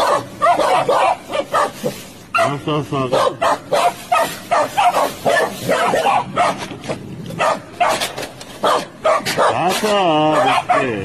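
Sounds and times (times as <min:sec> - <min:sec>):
young dog barking: 0:00.0 - 0:06.7, 0:07.3 - 0:11.0.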